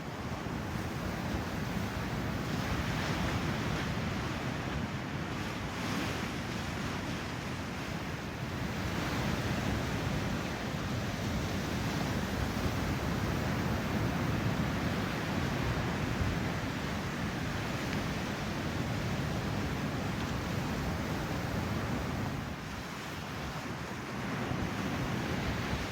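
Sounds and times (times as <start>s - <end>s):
waves breaking: 0.0s - 25.9s.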